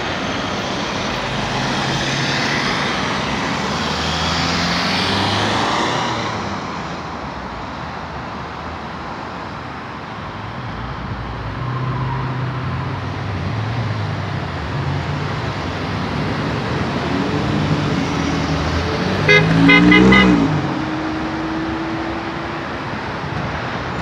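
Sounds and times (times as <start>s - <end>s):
cars driving past: 0.0s - 24.0s
rumble of engines: 0.0s - 24.0s.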